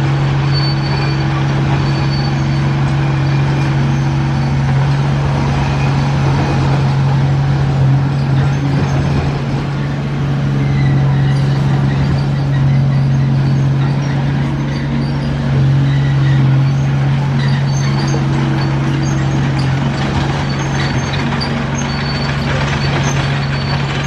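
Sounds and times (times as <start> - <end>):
bulldozer diesel engine droning: 0.0 - 24.0
mechanical clatter: 2.8 - 24.0.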